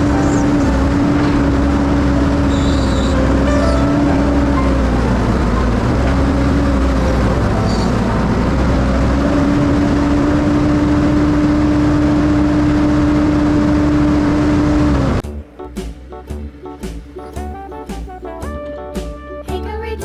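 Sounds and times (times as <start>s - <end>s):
heavy vehicle engine droning: 0.0s - 19.1s.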